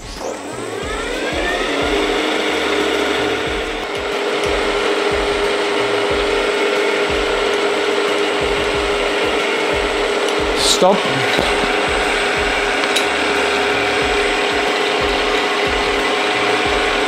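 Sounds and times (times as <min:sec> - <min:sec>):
end mill cutting metal: 0:00.0 - 0:17.0
milling machine motor whine: 0:00.0 - 0:17.0.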